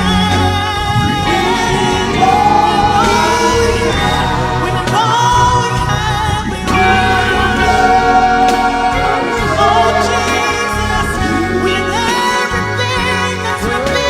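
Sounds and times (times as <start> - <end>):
group of voices singing: 0.0 - 14.0
instrumental backing with bass: 0.0 - 14.0.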